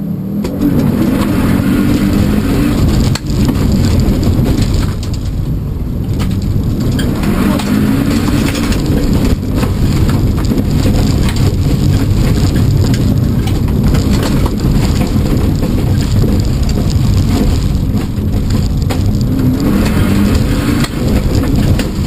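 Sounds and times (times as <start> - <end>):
car engine revving: 0.0 - 22.0
gravel crackling against car underside: 0.2 - 22.0.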